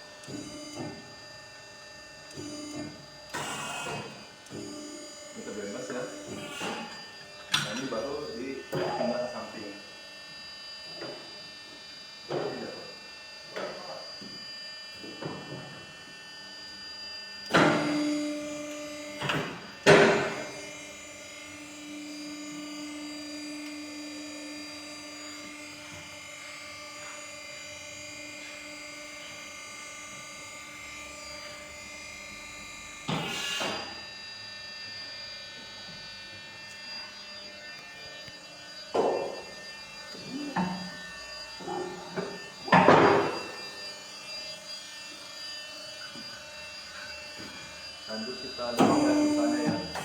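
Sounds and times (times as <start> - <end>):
electric motor humming: 0.1 - 50.0.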